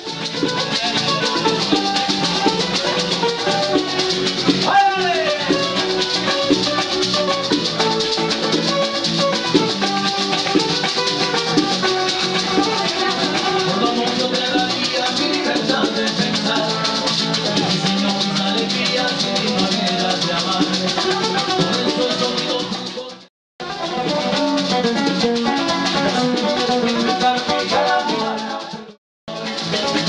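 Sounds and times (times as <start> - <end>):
acoustic guitar strumming: 0.0 - 30.0
maracas shaking: 0.0 - 30.0.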